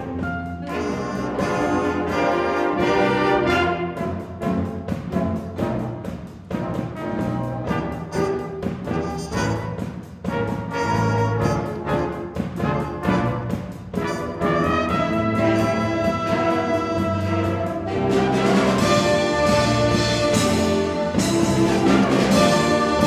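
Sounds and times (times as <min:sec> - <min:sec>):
concert band playing: 0:00.0 - 0:23.0.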